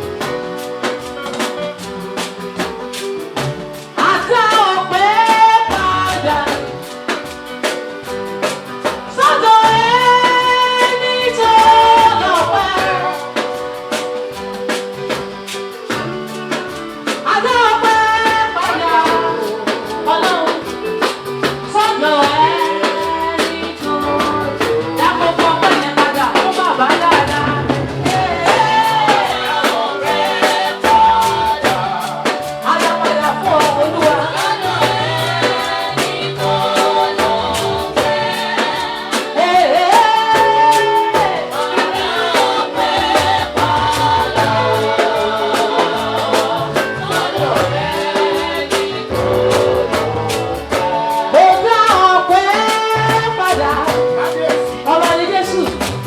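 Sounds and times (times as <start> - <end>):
drum kit beat: 0.0 - 56.0
guitar: 0.0 - 56.0
person singing: 0.0 - 56.0.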